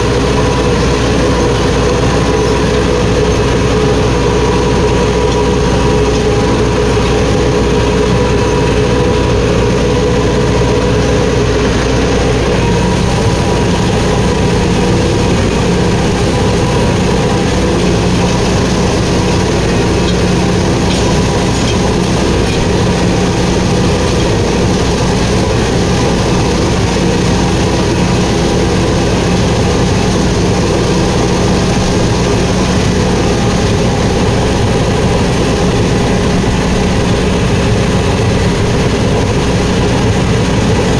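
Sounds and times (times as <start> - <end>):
rotavator churning mud: 0.0 - 40.9
tractor diesel engine under load: 0.0 - 40.9.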